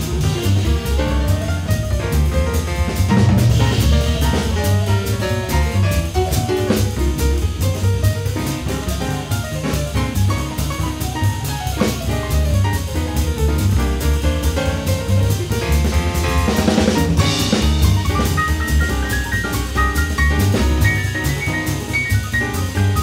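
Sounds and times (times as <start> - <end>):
drum kit steady beat: 0.0 - 23.0
instrumental melody: 0.0 - 23.0.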